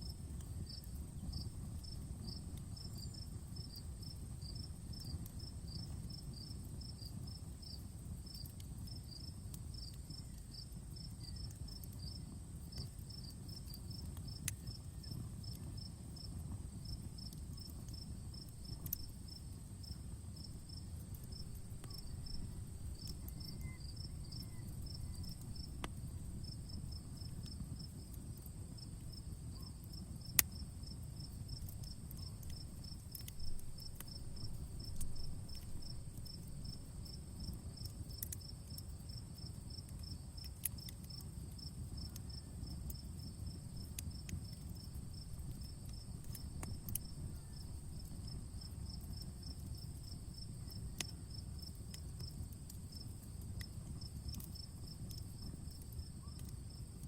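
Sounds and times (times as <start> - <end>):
insect chirping: 0.0 - 8.4, 16.2 - 57.0
campfire crackling and popping: 0.0 - 57.0.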